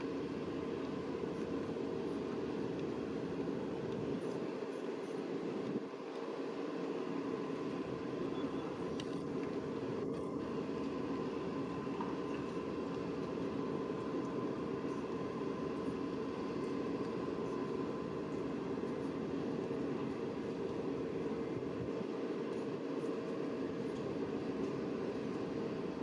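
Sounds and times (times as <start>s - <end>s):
ship machinery hum: 0.0s - 26.0s.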